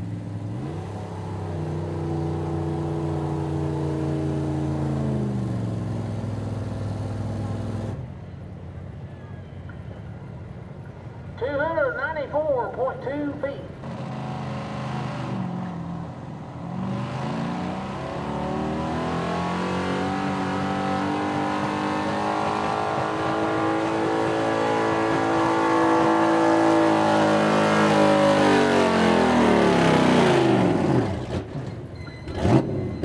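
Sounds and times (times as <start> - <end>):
truck engine at full throttle: 0.0 - 8.2, 13.7 - 33.0.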